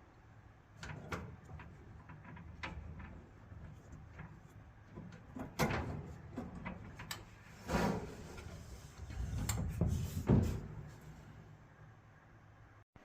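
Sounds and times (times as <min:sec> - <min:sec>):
dryer drum knocking and scraping: 0:00.8 - 0:11.7.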